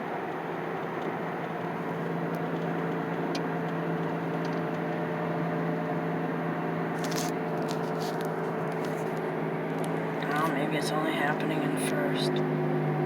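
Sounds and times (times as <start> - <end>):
car engine hum inside cabin: 0.0 - 13.0.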